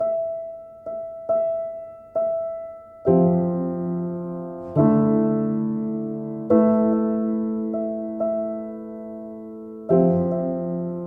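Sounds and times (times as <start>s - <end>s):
soft piano notes and chords: 0.0s - 11.0s.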